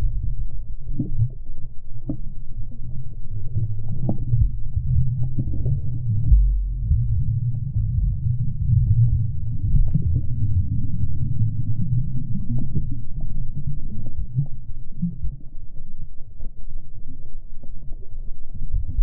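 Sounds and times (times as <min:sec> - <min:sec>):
underwater rumble of moving water: 0:00.0 - 0:19.0.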